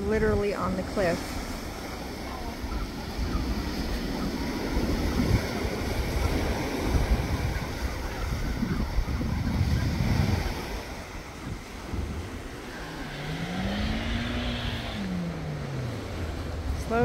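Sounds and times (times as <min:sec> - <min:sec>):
ocean surf washing on shore: 0:00.0 - 0:17.0
wind buffeting microphone: 0:00.0 - 0:17.0.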